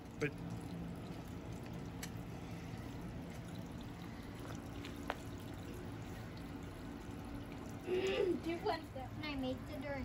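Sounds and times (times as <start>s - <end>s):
pond water trickling: 0.0s - 10.0s.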